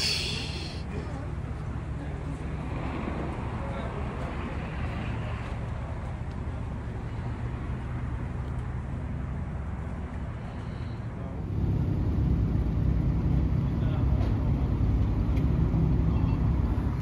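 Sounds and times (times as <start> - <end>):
car engines idling: 0.0 - 17.0
deep engine rumble: 0.0 - 17.0.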